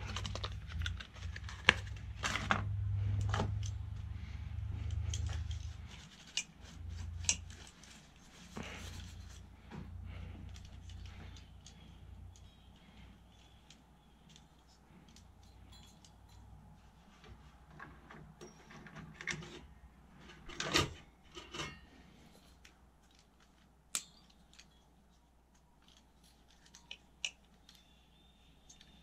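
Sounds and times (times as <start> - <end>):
computer parts rattling and scraping: 0.0 - 29.0.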